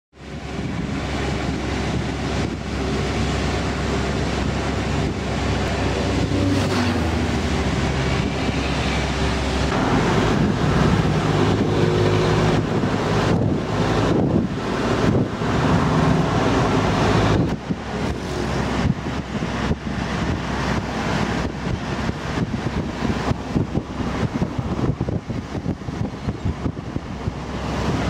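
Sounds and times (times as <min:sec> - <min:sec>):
truck engine and road noise: 0:00.1 - 0:28.0
wind buffeting microphone: 0:00.2 - 0:28.0.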